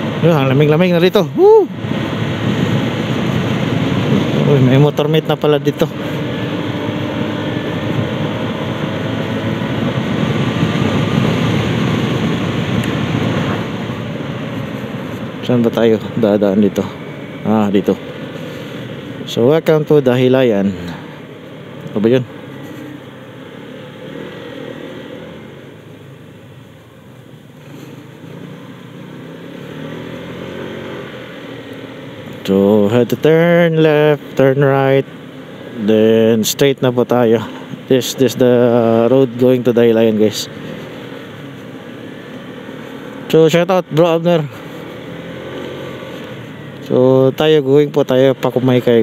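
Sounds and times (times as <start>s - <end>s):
motorcycle engine running: 0.0s - 49.0s
wind and road noise: 0.0s - 49.0s.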